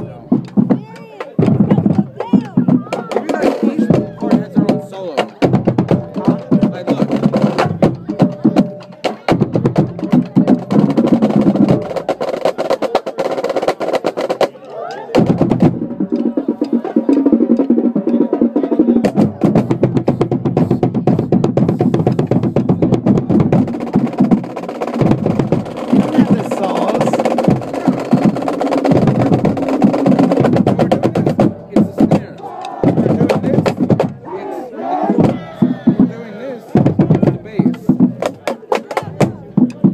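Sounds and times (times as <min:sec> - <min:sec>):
drums beating fast rhythm: 0:00.0 - 0:39.9
marching band playing: 0:00.0 - 0:39.9.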